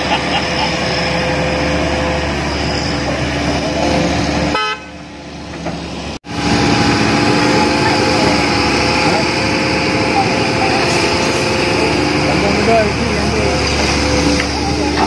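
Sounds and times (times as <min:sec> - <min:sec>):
excavator diesel engine: 0:00.0 - 0:15.0
hydraulic whine: 0:00.0 - 0:15.0.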